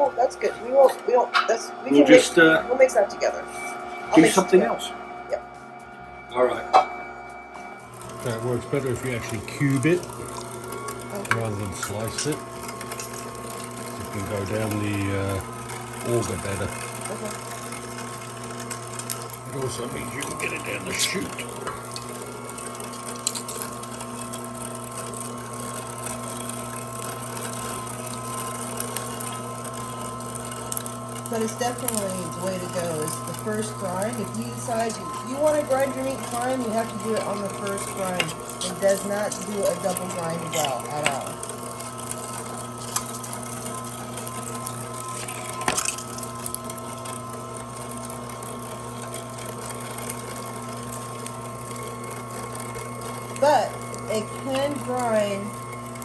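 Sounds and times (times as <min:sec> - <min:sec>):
juicer motor running: 0:00.0 - 0:56.0.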